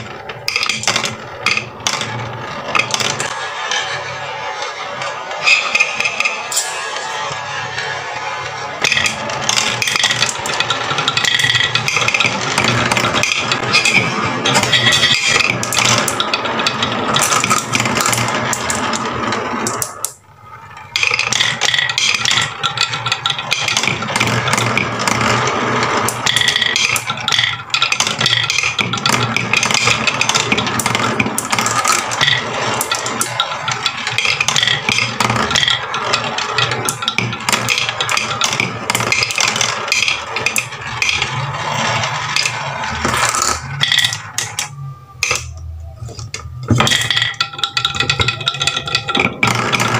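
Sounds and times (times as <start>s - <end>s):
marbles clicking: 0.0s - 49.9s
marbles rolling on wooden track: 0.0s - 49.9s.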